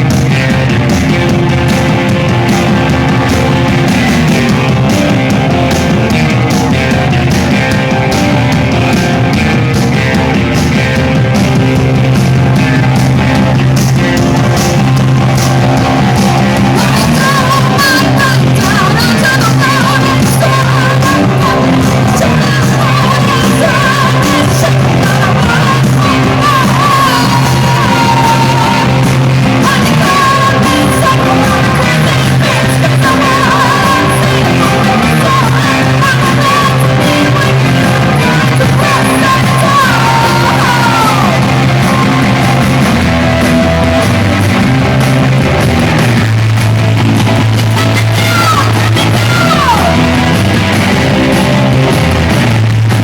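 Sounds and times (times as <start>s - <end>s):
rock band playing: 0.0s - 53.0s
singer yelling and singing: 0.0s - 53.0s.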